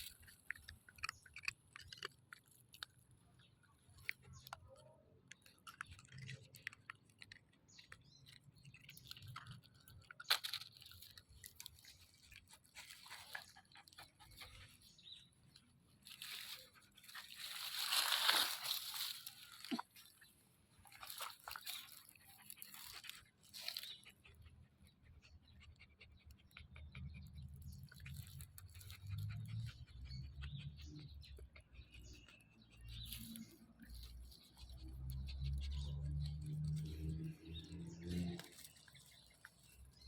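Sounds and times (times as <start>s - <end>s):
crunching and chewing: 0.0s - 40.0s.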